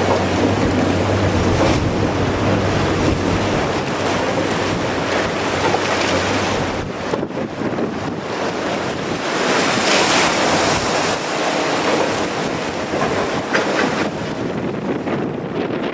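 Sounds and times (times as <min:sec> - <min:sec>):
ocean surf: 0:00.0 - 0:15.9
wind rushing across microphone: 0:00.0 - 0:15.9.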